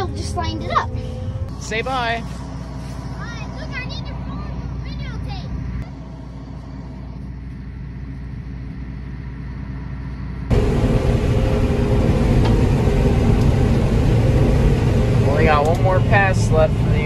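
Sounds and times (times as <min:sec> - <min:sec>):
engine and machinery drone: 0:00.0 - 0:17.0
tractor engine running: 0:00.0 - 0:17.0.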